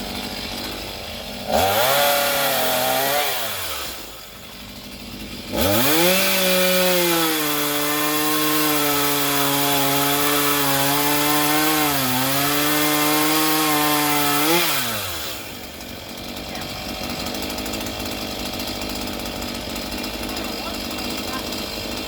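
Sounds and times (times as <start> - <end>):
chainsaw cutting tree limbs: 0.0 - 22.0
chainsaw idling rough rattle: 0.0 - 22.0.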